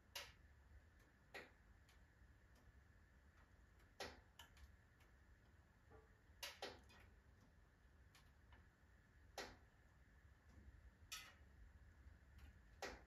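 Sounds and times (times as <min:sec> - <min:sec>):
firewood crackling in stove: 0:00.0 - 0:13.0.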